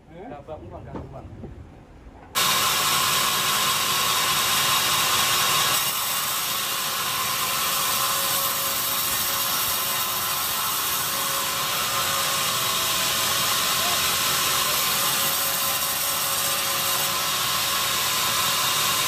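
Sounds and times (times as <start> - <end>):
band saw cutting log: 2.4 - 19.0.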